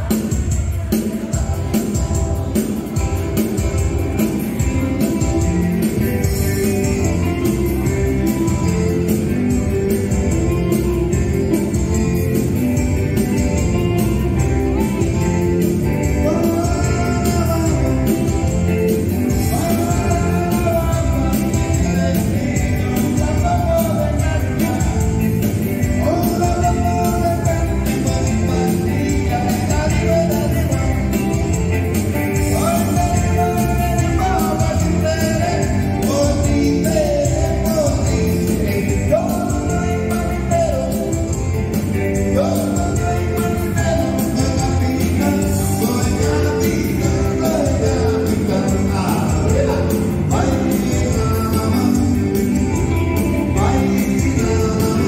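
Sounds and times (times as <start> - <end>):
keyboard dance music: 0.0 - 55.0
person singing: 0.0 - 55.0.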